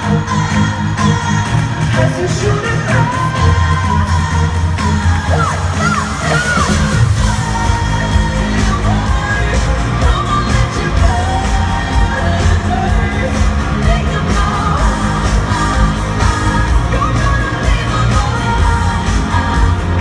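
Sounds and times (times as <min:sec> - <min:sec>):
loud amplified band: 0:00.0 - 0:20.0
strong bass beat: 0:00.0 - 0:20.0
woman singing: 0:00.0 - 0:20.0.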